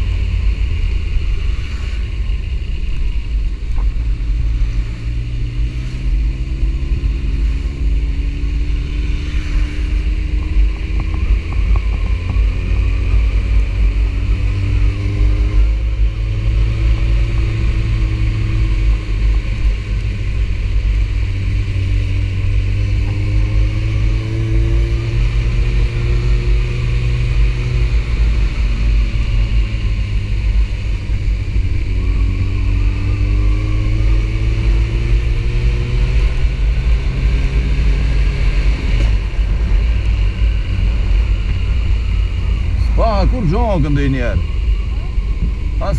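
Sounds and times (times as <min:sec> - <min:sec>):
motorcycle engine accelerating: 0:00.0 - 0:45.9
wind rumble on microphone: 0:00.0 - 0:45.9.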